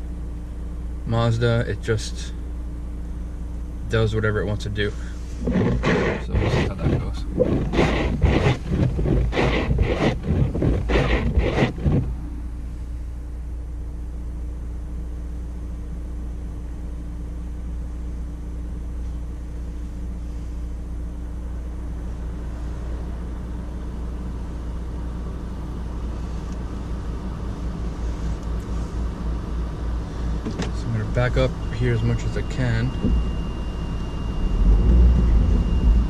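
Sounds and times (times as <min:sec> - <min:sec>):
car engine idling: 0:00.0 - 0:36.0
faint constant hum: 0:00.0 - 0:36.0.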